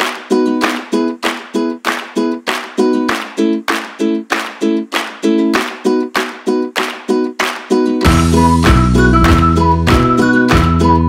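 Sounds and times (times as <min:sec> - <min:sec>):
strummed string instrument: 0:00.0 - 0:11.0.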